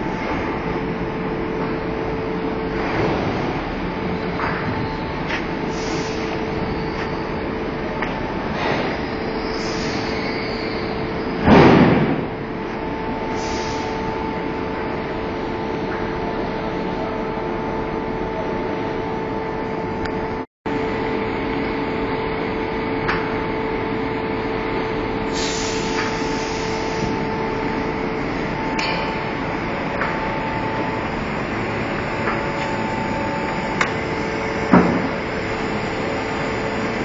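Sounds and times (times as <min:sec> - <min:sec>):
hydraulic pump whining drone: 0:00.0 - 0:37.0.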